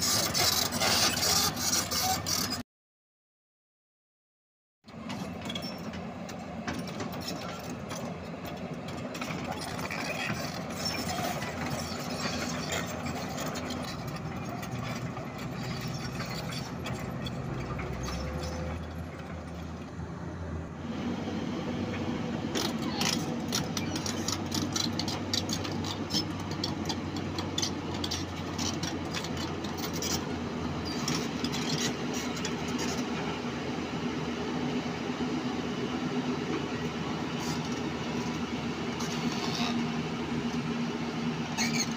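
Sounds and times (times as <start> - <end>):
excavator diesel engine running: 0.0 - 2.6, 4.9 - 41.9.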